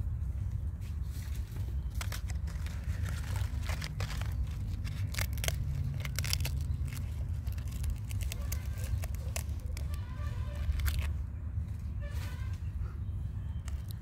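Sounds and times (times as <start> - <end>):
low steady rumble: 0.0 - 14.0
dry fruit crackling and tearing: 0.9 - 11.9, 13.5 - 14.0.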